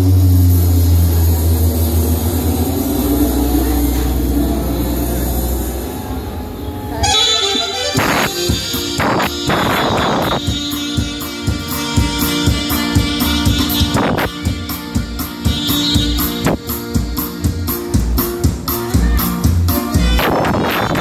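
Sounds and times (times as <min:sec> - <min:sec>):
held notes: 0:00.0 - 0:21.0.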